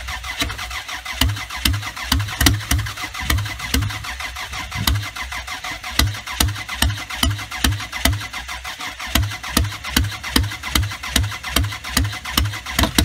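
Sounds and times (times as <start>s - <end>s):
car engine cranking on starter: 0.0s - 13.0s.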